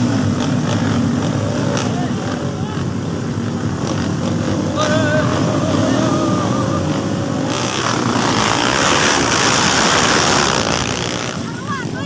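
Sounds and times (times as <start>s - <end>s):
dirt bike engines revving high: 0.0s - 12.0s.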